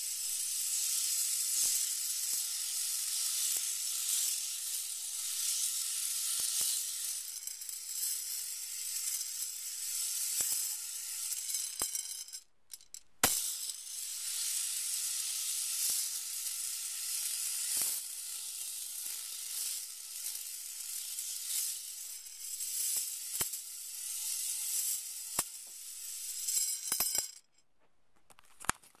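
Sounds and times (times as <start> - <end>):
spinner toy rings whirring: 0.0 - 27.6.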